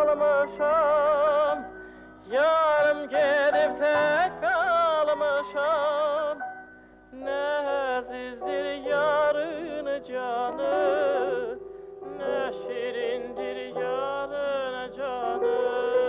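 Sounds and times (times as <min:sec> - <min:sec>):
person singing ornamented melody: 0:00.0 - 0:06.4, 0:07.1 - 0:16.0.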